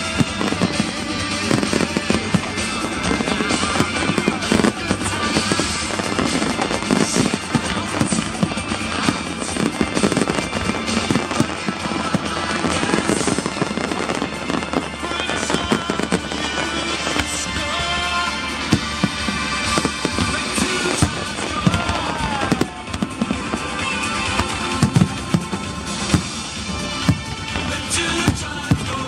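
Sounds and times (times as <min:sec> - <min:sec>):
fireworks bursting and crackling: 0:00.0 - 0:29.0
music playing: 0:00.0 - 0:29.0.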